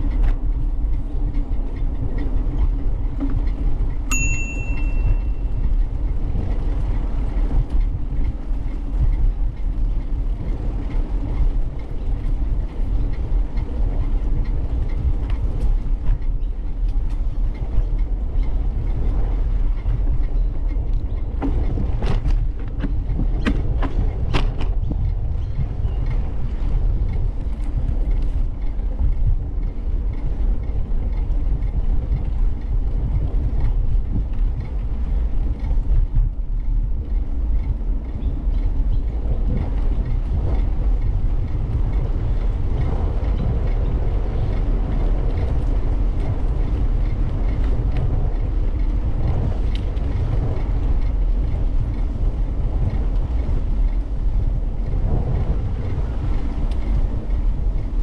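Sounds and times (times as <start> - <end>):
bicycle tyres rolling: 0.0 - 58.0
faint ticks and rattles: 0.0 - 58.0
wind buffeting microphone: 0.0 - 58.0.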